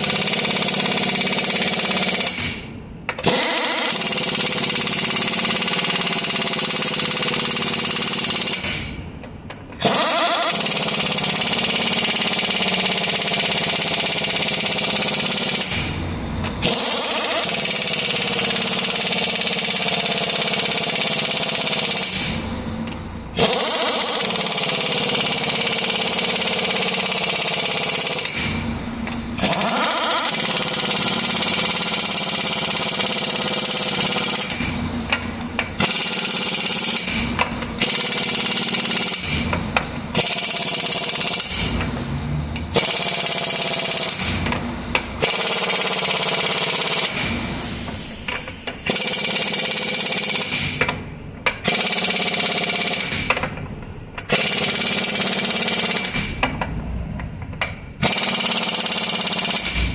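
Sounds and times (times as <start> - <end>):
pneumatic impact wrench: 0.0 - 59.9.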